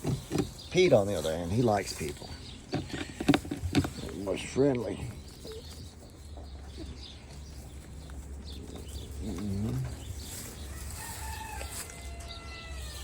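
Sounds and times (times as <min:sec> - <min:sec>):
chickens calling: 0:00.0 - 0:13.0.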